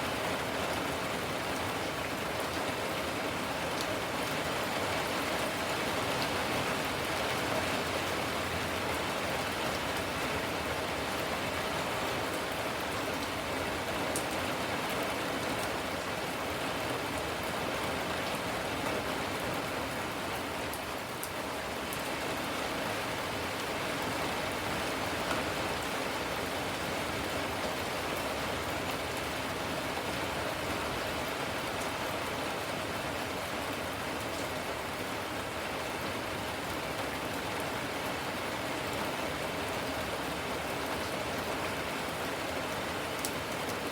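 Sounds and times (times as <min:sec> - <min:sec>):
steady rain falling: 0:00.0 - 0:43.9
raindrops pattering on surfaces: 0:00.1 - 0:43.9.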